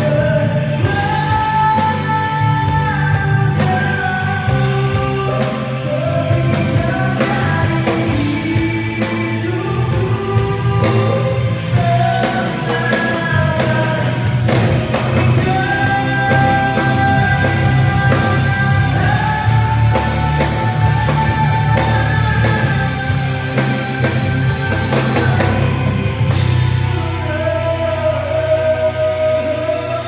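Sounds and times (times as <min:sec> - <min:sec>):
live band playing: 0:00.0 - 0:30.0
man singing: 0:00.0 - 0:30.0.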